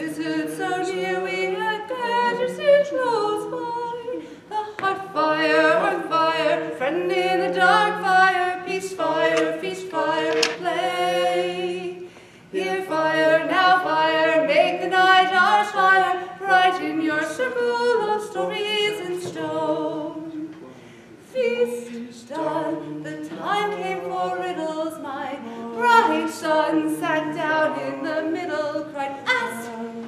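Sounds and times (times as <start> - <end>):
woman singing: 0.0 - 12.0, 12.6 - 20.4, 21.3 - 30.0.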